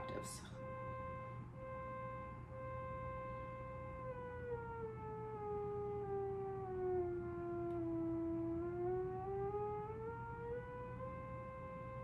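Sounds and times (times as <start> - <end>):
theremin playing a scale: 0.0 - 12.0.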